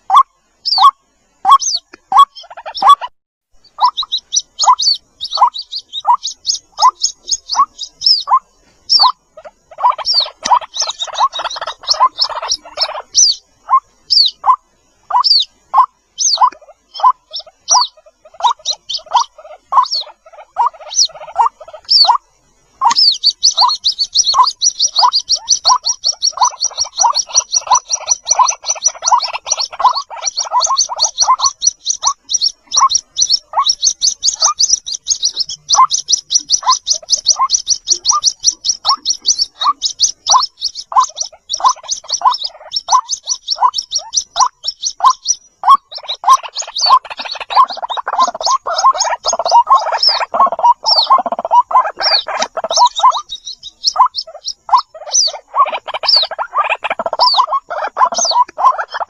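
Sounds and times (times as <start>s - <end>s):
chicks peeping: 0.0s - 59.0s
high-pitched bird calls: 0.0s - 59.0s.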